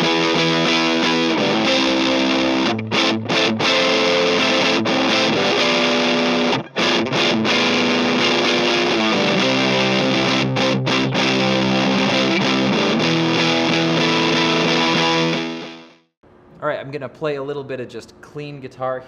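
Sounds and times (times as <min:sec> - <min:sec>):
distorted electric guitar chords: 0:00.0 - 0:16.1.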